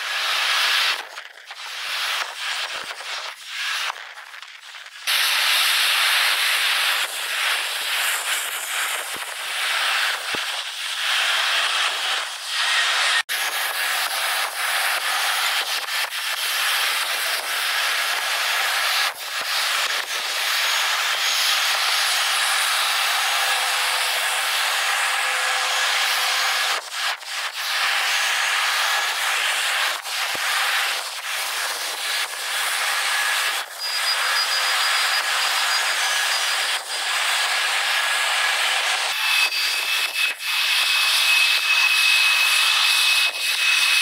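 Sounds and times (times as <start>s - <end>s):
sped-up aircraft noise hissing: 0.0s - 43.0s.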